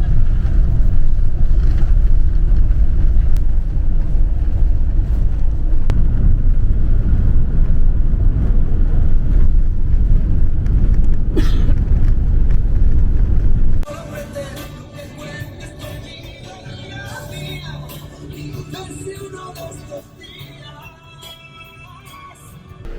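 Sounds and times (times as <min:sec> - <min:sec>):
vehicle rumbling in motion: 0:00.0 - 0:20.8, 0:22.6 - 0:22.9.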